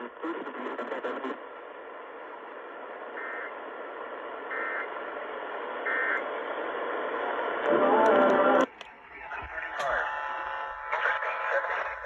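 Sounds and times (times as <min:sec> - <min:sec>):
radio static hiss: 0:00.0 - 0:06.2, 0:07.0 - 0:12.0.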